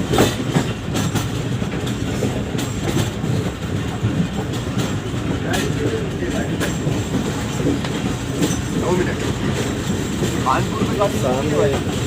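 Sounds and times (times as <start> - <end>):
train wheels rumbling: 0.0 - 12.0
wheels clacking over rail joints: 0.0 - 12.0.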